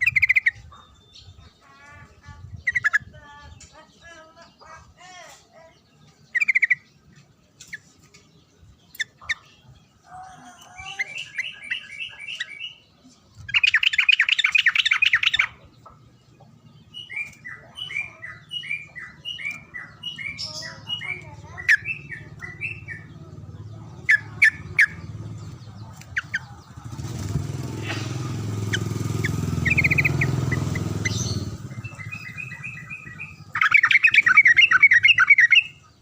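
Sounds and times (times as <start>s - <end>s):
loud rapid bird trill: 0.0s - 3.7s, 6.3s - 7.9s, 8.9s - 36.0s
bulbul singing: 0.0s - 36.0s.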